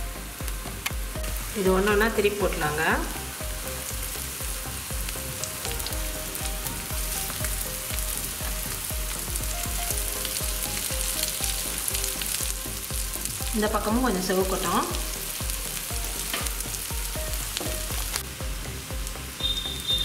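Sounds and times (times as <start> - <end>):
cutlets sizzling in oil: 0.0 - 20.0.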